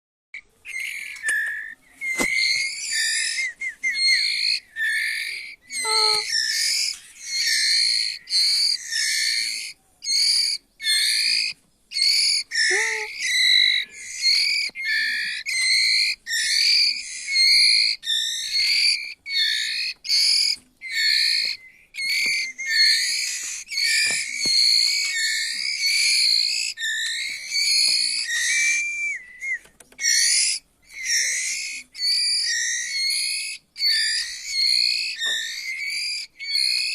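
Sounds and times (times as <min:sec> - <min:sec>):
bird singing whistled phrases: 0:00.4 - 0:36.9.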